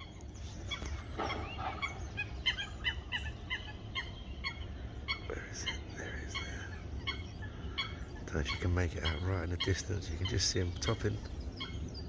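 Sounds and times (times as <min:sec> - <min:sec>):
waterfowl calling: 0:00.0 - 0:12.0.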